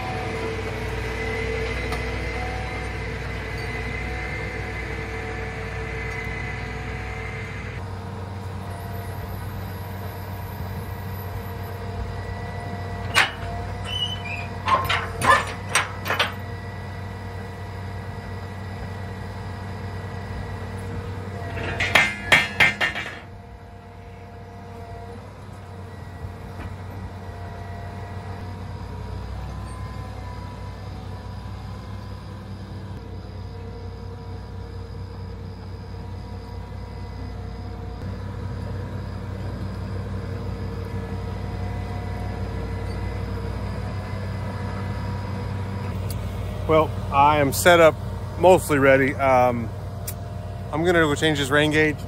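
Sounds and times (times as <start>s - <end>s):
tractor diesel engine idling: 0.0s - 52.0s.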